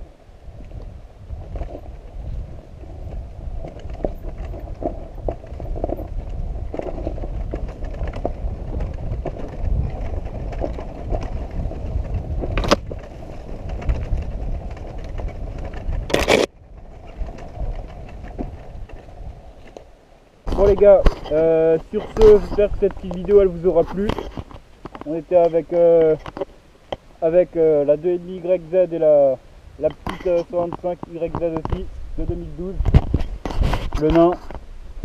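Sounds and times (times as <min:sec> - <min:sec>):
wind on microphone: 0:00.0 - 0:19.8, 0:20.4 - 0:35.0
tyres rolling over dirt: 0:00.0 - 0:35.0.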